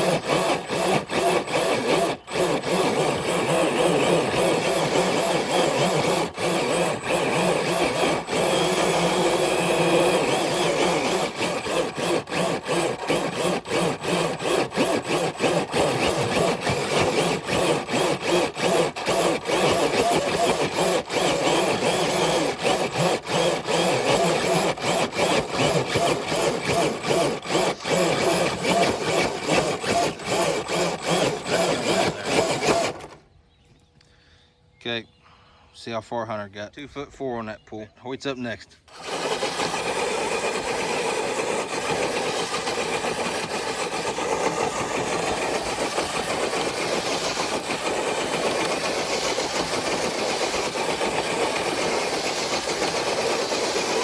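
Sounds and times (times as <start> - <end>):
toy truck electric motor running: 0.0 - 33.2, 38.9 - 54.0.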